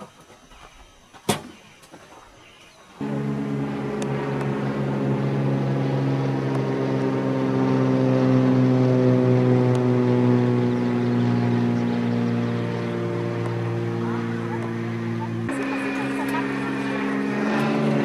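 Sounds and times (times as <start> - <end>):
propeller plane flying overhead: 3.0 - 18.0.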